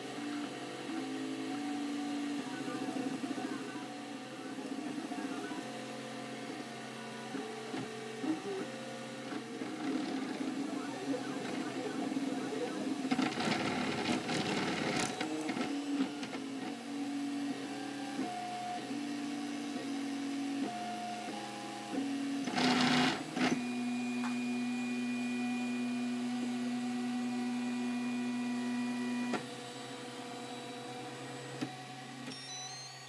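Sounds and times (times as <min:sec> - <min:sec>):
cooling fans whirring: 0:00.0 - 0:33.0
stepper motors whining: 0:00.0 - 0:33.0.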